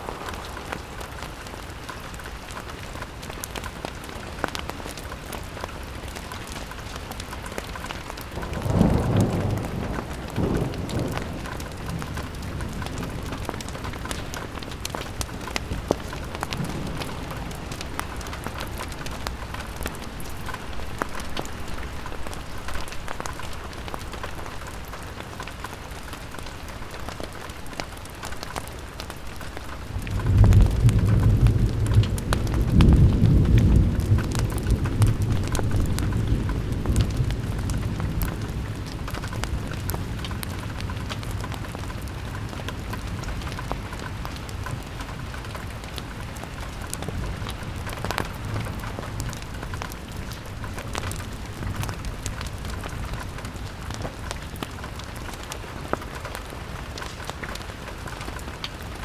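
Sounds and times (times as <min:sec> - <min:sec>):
low rumble of thunder: 0:00.0 - 0:04.6, 0:07.7 - 0:25.5, 0:29.1 - 0:57.0
rain falling on a window: 0:00.0 - 0:59.0.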